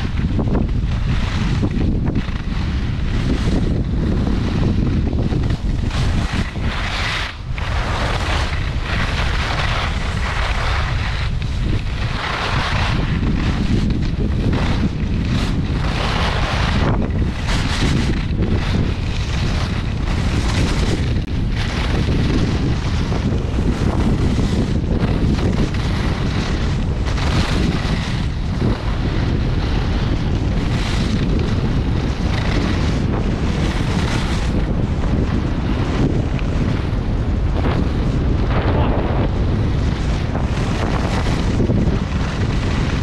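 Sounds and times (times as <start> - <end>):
skis scraping on snow: 0.0 - 43.0
wind buffeting microphone: 0.0 - 43.0.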